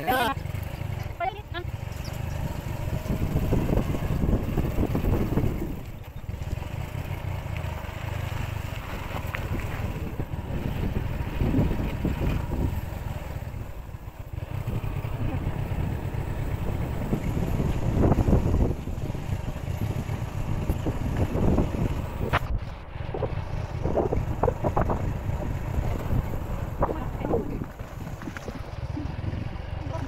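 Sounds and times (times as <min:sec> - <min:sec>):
vehicle engine running: 0:00.0 - 0:30.0
wind rumble on microphone: 0:01.9 - 0:06.7, 0:08.7 - 0:30.0.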